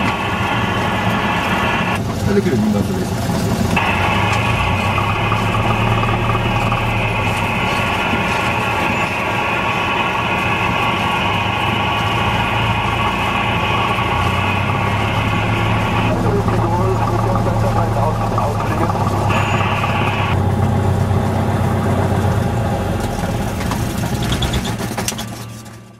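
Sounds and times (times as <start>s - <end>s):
propeller plane engine running: 0.0s - 25.9s.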